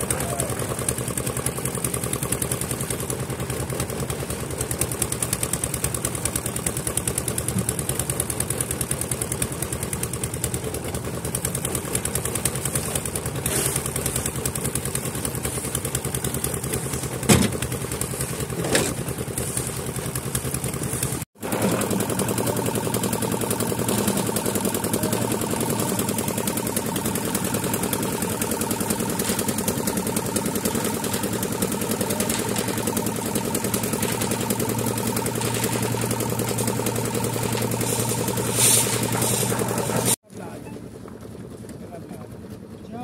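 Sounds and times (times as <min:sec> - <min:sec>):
concrete mixer engine running: 0:00.0 - 0:43.0.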